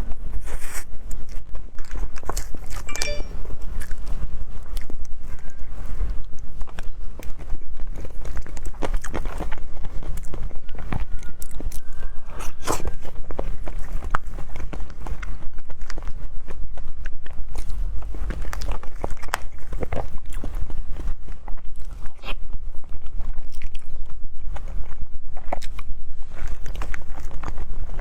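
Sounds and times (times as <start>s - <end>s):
biting and chewing crunches: 0.1s - 3.0s, 3.8s - 28.0s.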